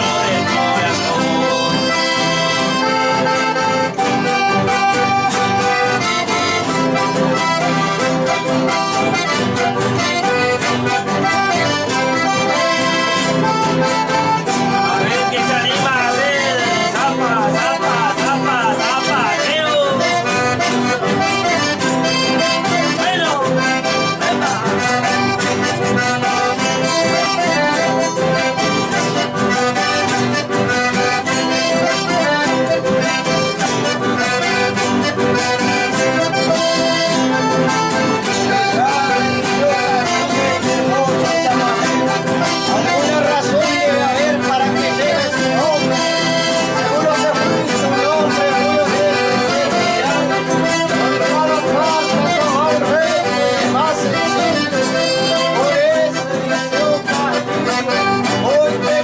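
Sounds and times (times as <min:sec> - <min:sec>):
accordion folk music: 0:00.0 - 0:59.0.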